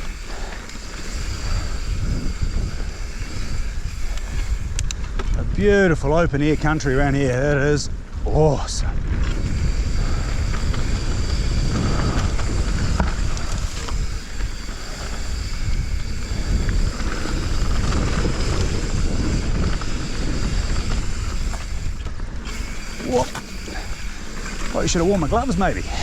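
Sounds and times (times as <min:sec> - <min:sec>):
bike clicking: 0:00.0 - 0:26.0
tyres rumbling on dirt trail: 0:00.0 - 0:26.0
wind buffeting microphone: 0:00.0 - 0:26.0.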